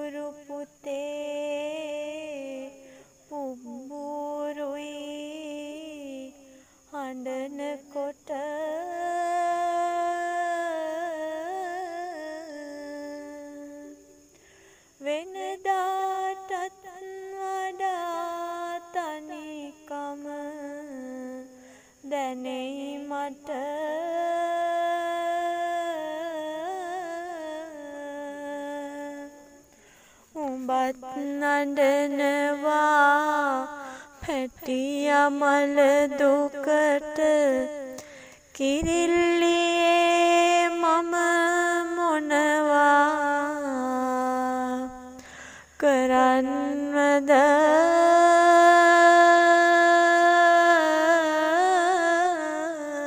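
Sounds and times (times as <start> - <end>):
person humming a slow melody: 0.0 - 53.0.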